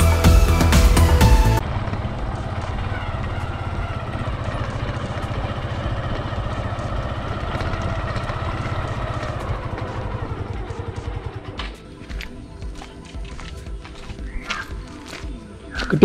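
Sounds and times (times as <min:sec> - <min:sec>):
motorcycle engine low throb: 0:00.0 - 0:14.4.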